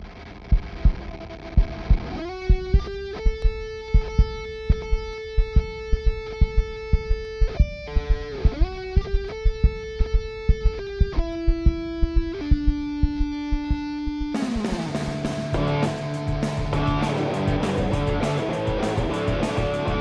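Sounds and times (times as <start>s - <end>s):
electric guitar sustained notes: 0.0s - 20.0s
steady drum beat: 0.4s - 20.0s.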